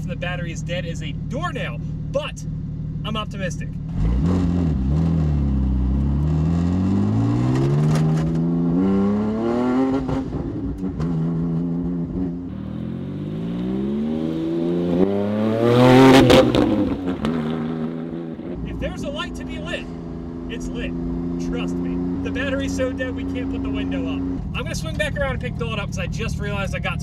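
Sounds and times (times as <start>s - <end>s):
car engine accelerating hard: 3.8s - 27.0s.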